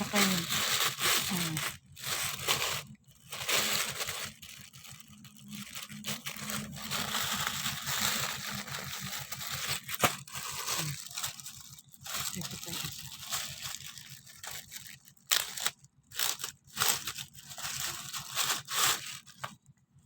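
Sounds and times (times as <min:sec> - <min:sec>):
plastic packaging crinkling: 0:00.0 - 0:19.7.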